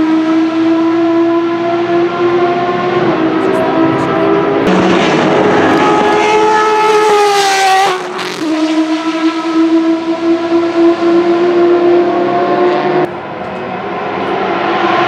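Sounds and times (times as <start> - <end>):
racing engine at high revs: 0.0 - 15.0.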